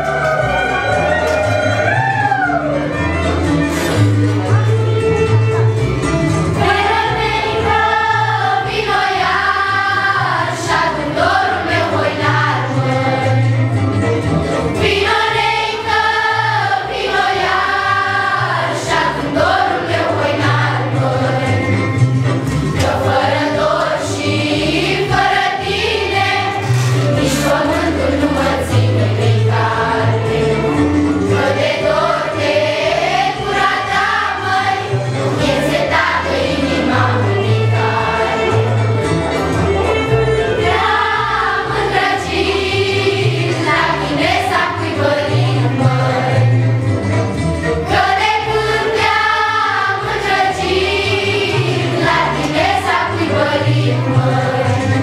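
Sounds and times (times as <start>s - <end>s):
low accompaniment: 0.0s - 55.0s
choir singing: 6.5s - 13.7s, 14.7s - 22.0s, 22.7s - 39.5s, 40.1s - 46.7s, 47.8s - 55.0s.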